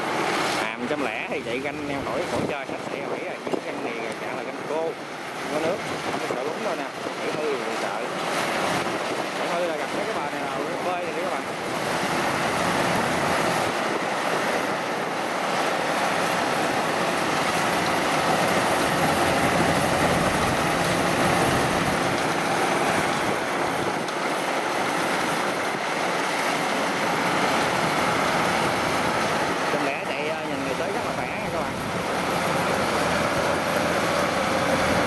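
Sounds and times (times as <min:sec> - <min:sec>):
combine harvester running: 0:00.0 - 0:35.0.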